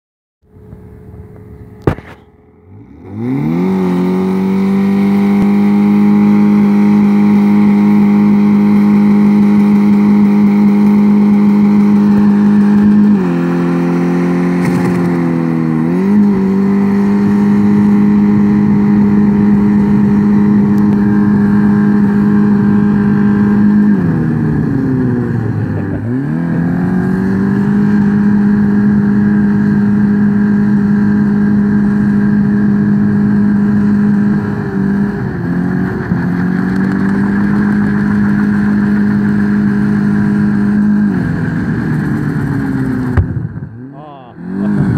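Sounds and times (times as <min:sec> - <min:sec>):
car engine revving: 0:00.6 - 0:44.9.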